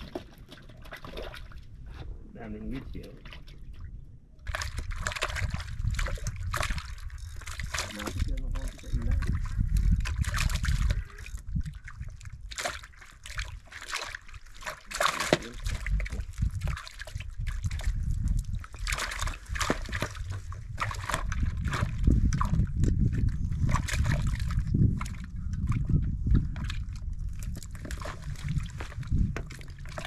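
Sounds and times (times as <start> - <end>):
small splashes: 0.0 - 1.7, 2.9 - 25.8
water sloshing and trickling: 0.0 - 30.0.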